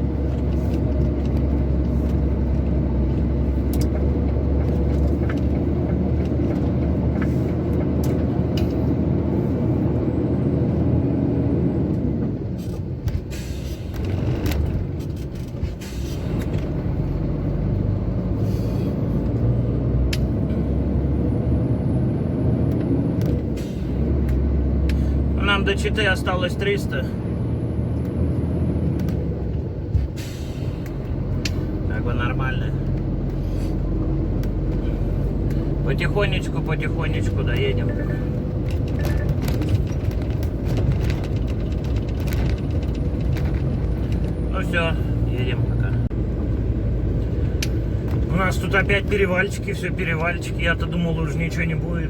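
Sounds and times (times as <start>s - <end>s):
road rumble: 0.0s - 52.0s
truck engine droning: 0.0s - 52.0s.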